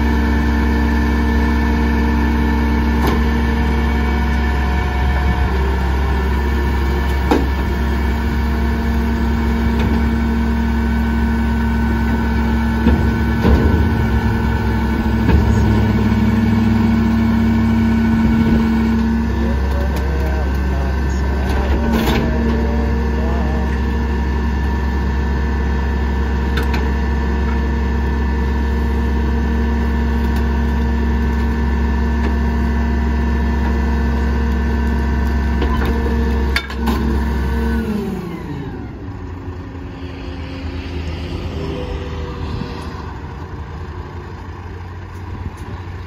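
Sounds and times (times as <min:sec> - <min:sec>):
garbage truck engine revving: 0:00.0 - 0:46.0.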